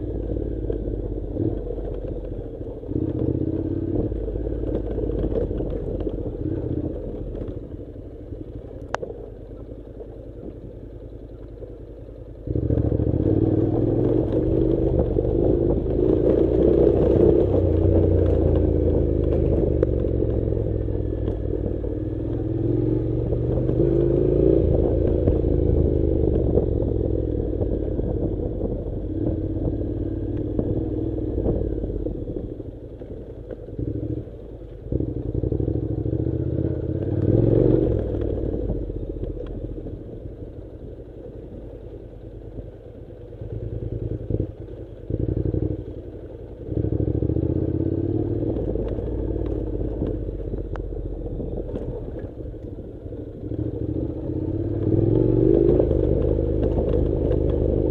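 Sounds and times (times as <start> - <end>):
motorcycle engine at low revs: 0.0 - 57.9.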